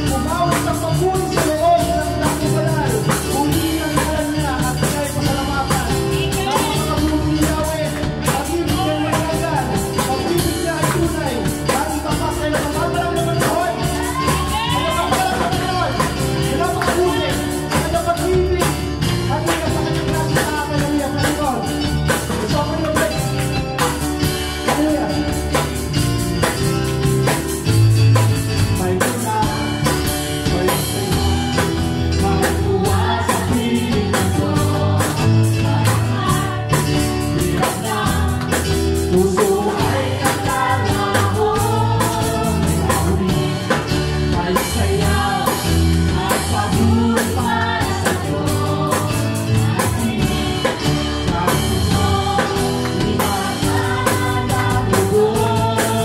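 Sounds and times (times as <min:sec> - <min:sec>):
person singing: 0:00.0 - 0:11.0, 0:11.6 - 0:21.6, 0:28.8 - 0:56.0
drum kit beat: 0:00.0 - 0:56.0
electric guitar: 0:00.0 - 0:56.0.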